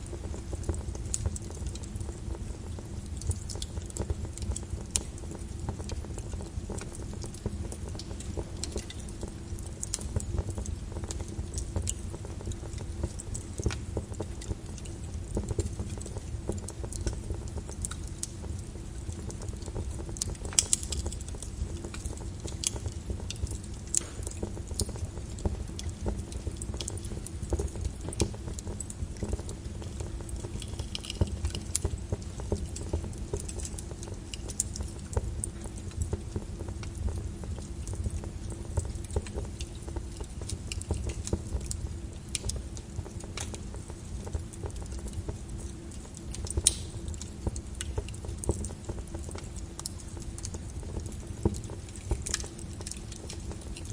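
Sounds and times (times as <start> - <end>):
lava crackling and popping: 0.0 - 53.9.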